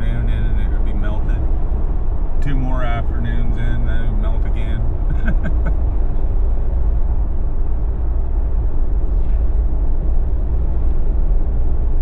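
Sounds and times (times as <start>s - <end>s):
car engine rumbling: 0.0s - 12.0s
tyres on the road: 0.0s - 12.0s.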